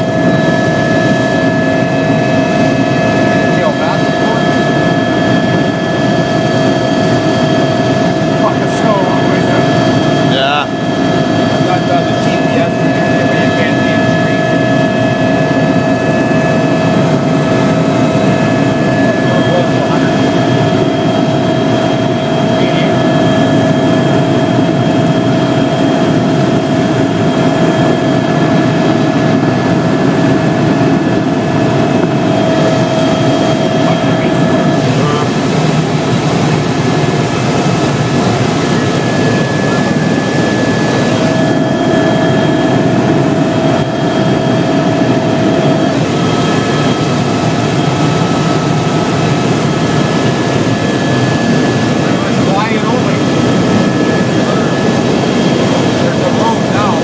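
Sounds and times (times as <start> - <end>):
helicopter engine and rotor drone: 0.0 - 57.0
whining tones: 0.0 - 57.0.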